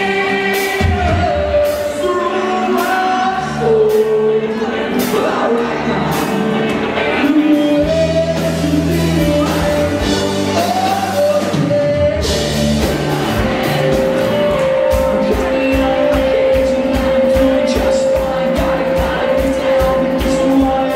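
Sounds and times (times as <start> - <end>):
person singing: 0.0 - 20.9
rock band playing live: 0.0 - 20.9.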